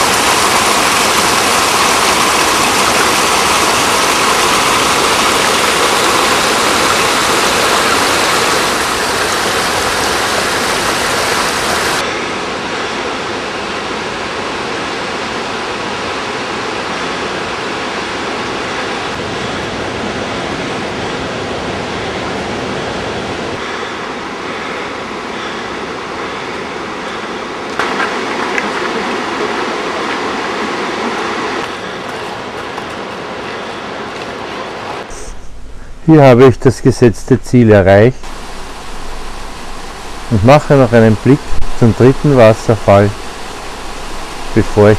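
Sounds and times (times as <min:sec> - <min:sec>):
waterfall rushing: 0:00.0 - 0:36.3, 0:37.0 - 0:44.9.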